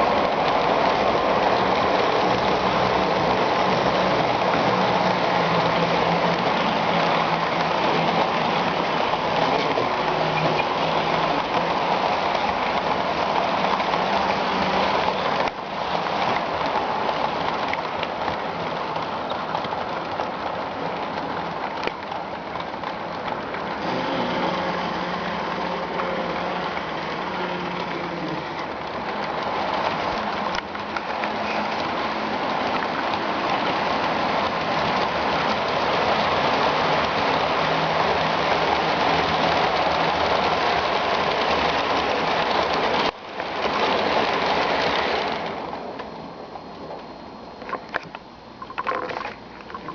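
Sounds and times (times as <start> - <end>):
model trains running: 0.0 - 49.9.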